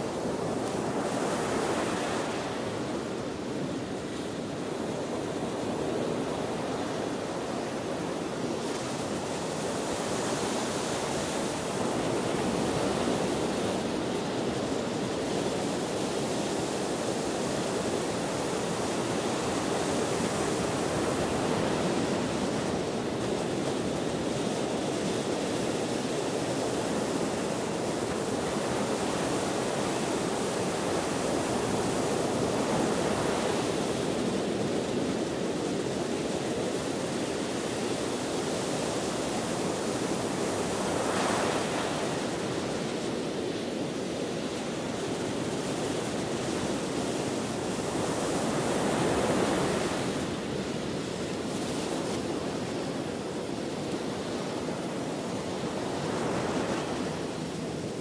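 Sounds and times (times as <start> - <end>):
wind: 0.0 - 58.0.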